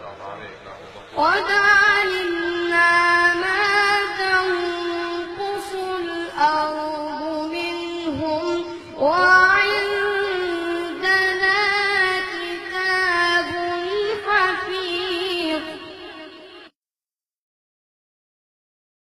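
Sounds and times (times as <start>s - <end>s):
man chanting melodic recitation: 0.0s - 16.7s.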